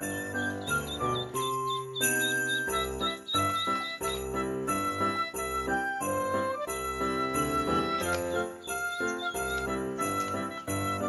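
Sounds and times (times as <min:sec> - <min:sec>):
bright tune of sustained notes: 0:00.0 - 0:11.0
jingle bells shaking: 0:00.0 - 0:11.0.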